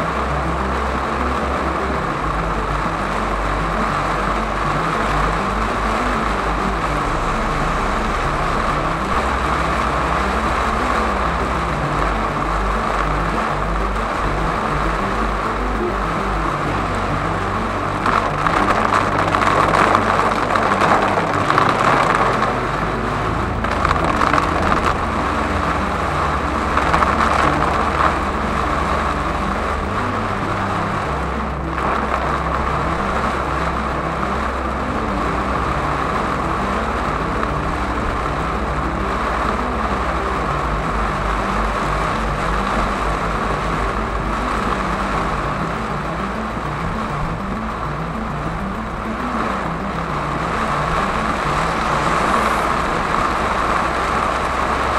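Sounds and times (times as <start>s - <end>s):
low engine hum: 0.0s - 54.9s
rain and tyre spray rushing: 0.0s - 54.9s.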